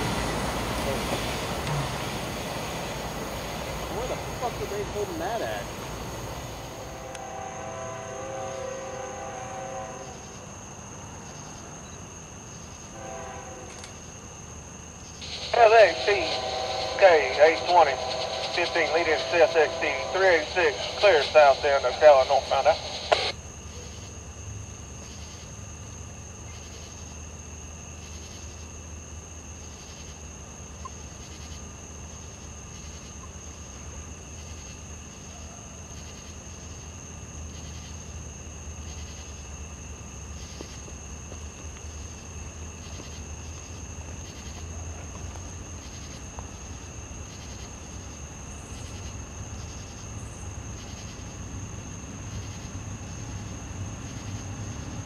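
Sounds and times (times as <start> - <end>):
frogs pulsing call: 0.0 - 10.5, 15.0 - 24.3, 26.4 - 27.2, 29.6 - 55.0
distant freight train rumble: 0.0 - 55.0
insects buzzing: 0.0 - 55.0.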